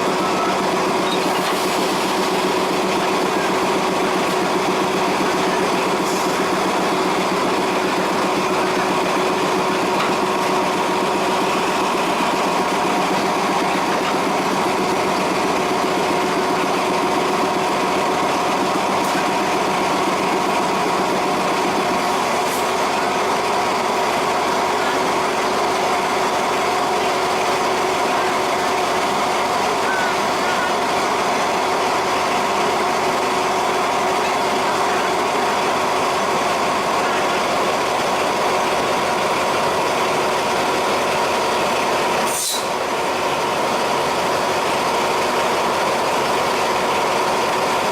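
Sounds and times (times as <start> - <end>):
diesel train engine idling: 0.0 - 47.9.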